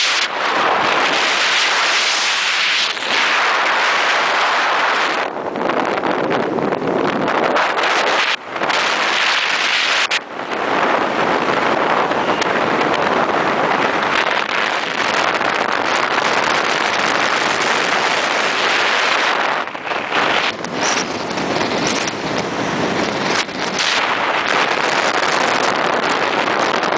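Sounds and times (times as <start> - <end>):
wind roaring over microphone: 0.0 - 26.9.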